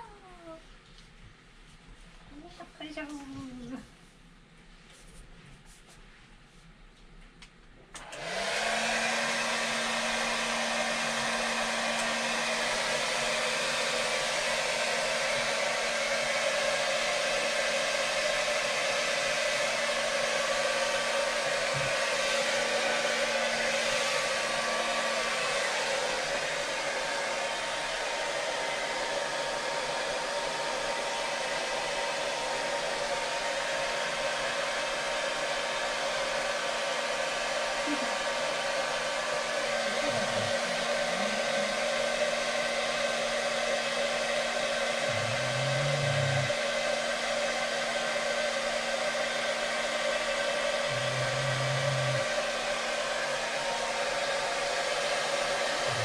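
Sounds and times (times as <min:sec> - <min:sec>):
hair dryer blowing: 0:08.0 - 0:56.0.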